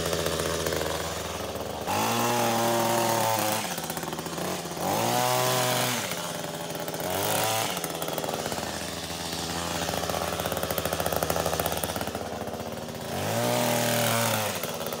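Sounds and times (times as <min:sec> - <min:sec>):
hedge trimmer revving: 0:00.0 - 0:15.0.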